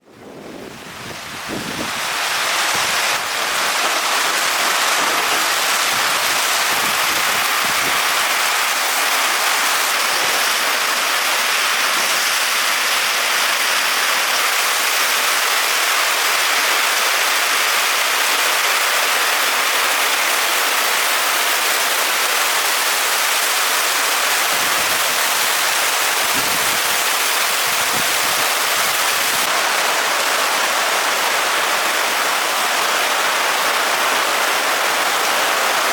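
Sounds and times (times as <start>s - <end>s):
rush of falling water: 0.2s - 35.9s.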